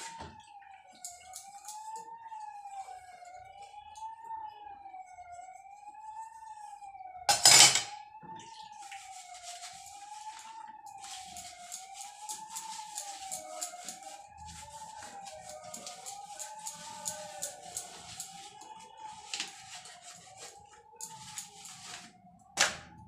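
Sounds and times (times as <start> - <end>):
wavering siren-like tone: 0.0 - 23.0.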